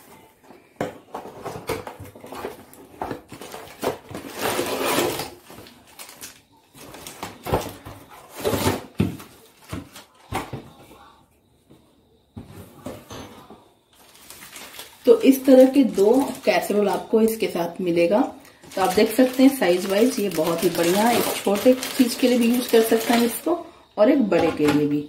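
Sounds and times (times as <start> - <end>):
cardboard and plastic rustling: 0.0 - 10.9, 13.9 - 23.6.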